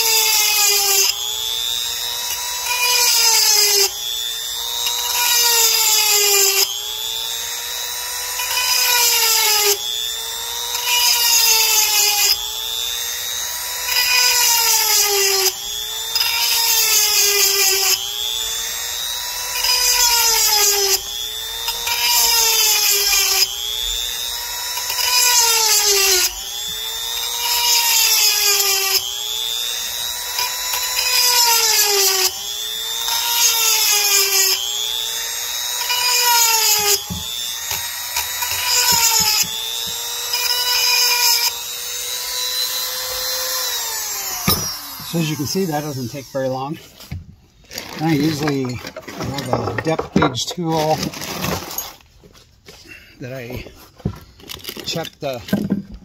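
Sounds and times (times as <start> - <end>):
electric grinder whining: 0.0 - 52.1.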